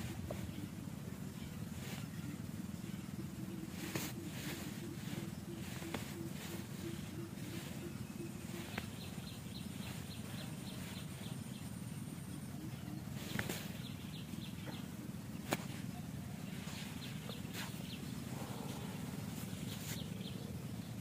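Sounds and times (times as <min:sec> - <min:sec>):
faint high whine: 0:00.0 - 0:21.0
steady low rumble: 0:00.0 - 0:21.0.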